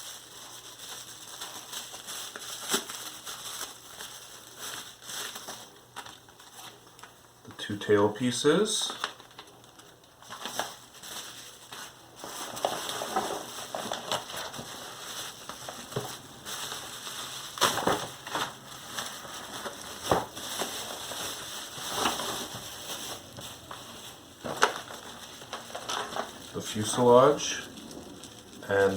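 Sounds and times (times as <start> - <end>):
plastic packaging crinkling: 0.0 - 7.5, 8.2 - 28.9.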